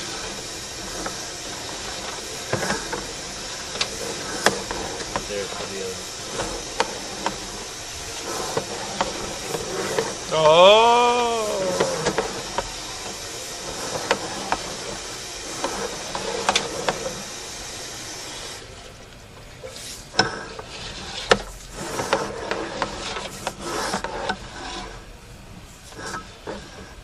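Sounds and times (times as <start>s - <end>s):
cable scraping and clicking in pipe: 0.0s - 10.3s, 11.3s - 17.3s, 19.6s - 25.1s, 25.7s - 27.0s
steady hiss: 0.0s - 27.0s.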